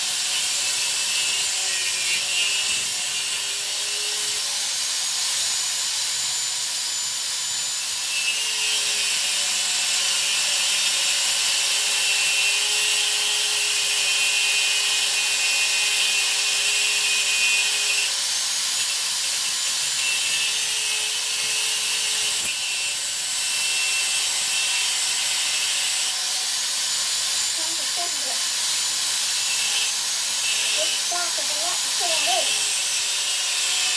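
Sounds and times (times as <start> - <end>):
power saw cutting steel: 0.0 - 33.9.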